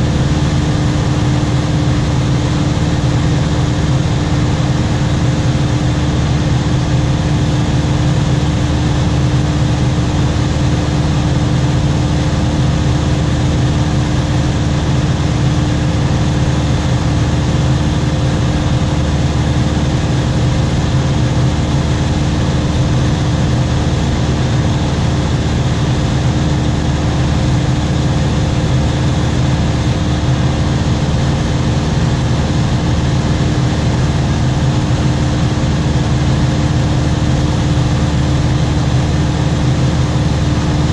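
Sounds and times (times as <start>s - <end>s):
aircraft engine drone: 0.0s - 40.9s.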